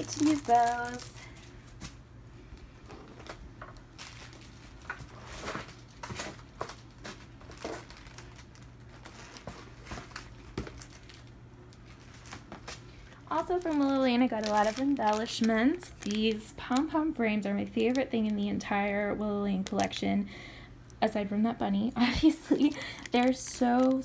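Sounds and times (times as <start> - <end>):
plastic packaging crinkling: 0.0 - 20.1, 22.0 - 24.0.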